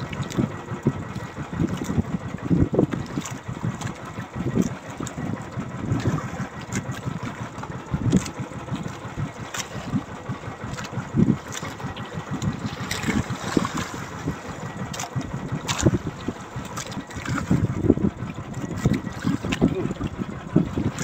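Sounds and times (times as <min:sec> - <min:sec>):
boat engine low rumble: 0:00.0 - 0:21.0.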